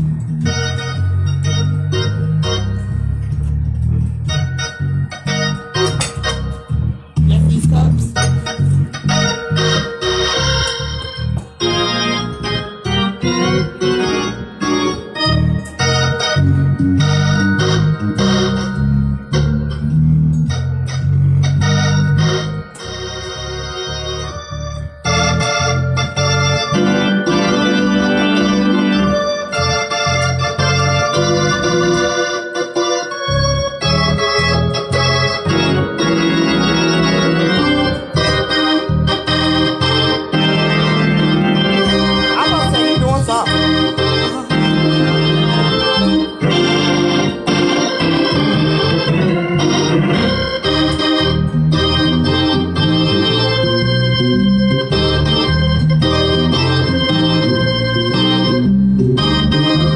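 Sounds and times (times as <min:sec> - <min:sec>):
organ playing chords: 0:00.0 - 0:59.9.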